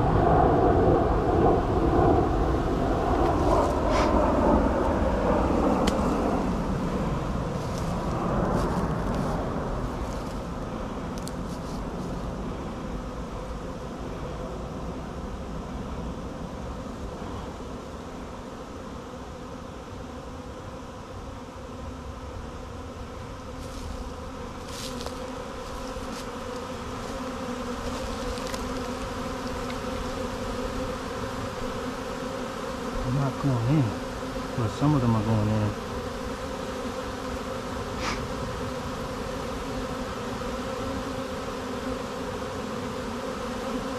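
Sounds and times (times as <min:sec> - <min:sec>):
bee swarm buzzing: 0:00.0 - 0:43.9.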